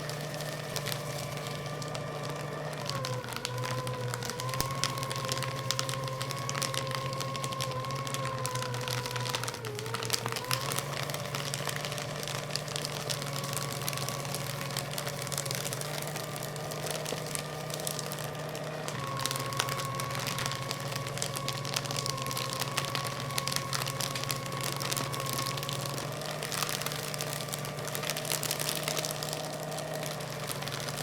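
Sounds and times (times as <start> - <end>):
paper crackling being cut: 0.0 - 31.0
paper shredder motor whine: 0.0 - 31.0.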